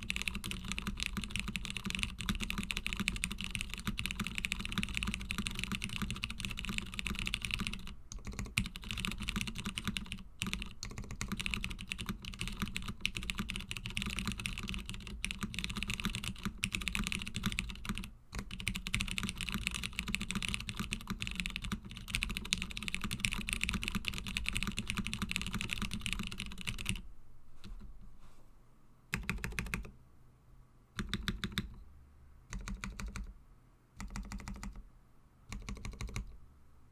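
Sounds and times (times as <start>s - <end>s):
mechanical keyboard typing: 0.0s - 27.0s, 29.1s - 29.9s, 31.0s - 31.8s, 32.5s - 33.3s, 34.0s - 34.8s, 35.5s - 36.4s.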